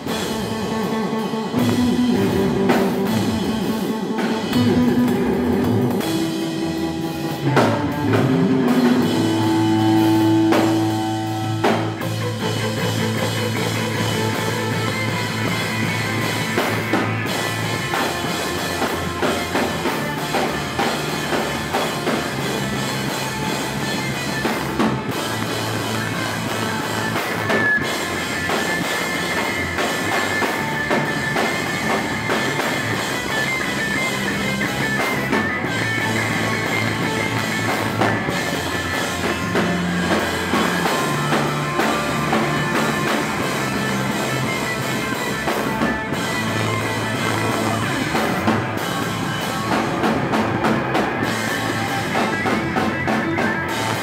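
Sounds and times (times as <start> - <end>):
rock music with drums and guitar: 0.0 - 54.0.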